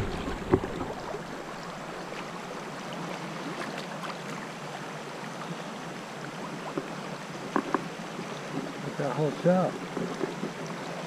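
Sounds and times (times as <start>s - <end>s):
small water splashes: 0.0s - 11.0s
water rushing over rocks: 0.0s - 11.0s.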